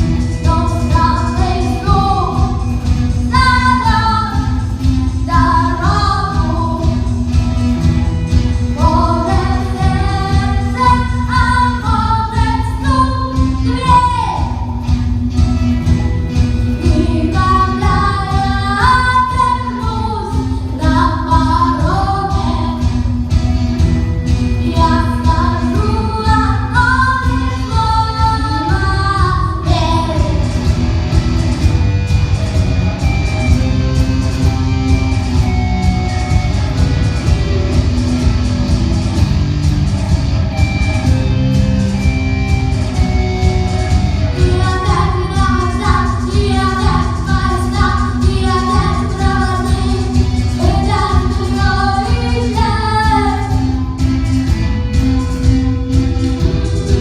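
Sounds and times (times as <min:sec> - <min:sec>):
bass guitar: 0:00.0 - 0:57.0
steady drum beat: 0:00.0 - 0:57.0.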